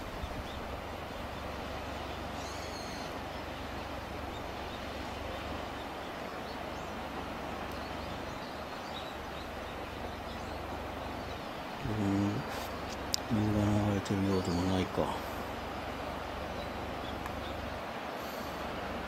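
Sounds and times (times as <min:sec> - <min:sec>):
faint bird calls: 0:00.0 - 0:18.9
outdoor background noise: 0:00.0 - 0:19.0.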